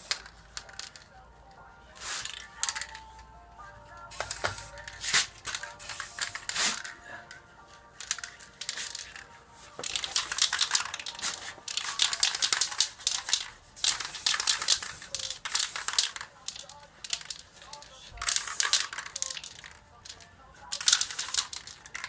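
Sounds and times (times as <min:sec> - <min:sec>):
soft background music: 0:00.0 - 0:22.0.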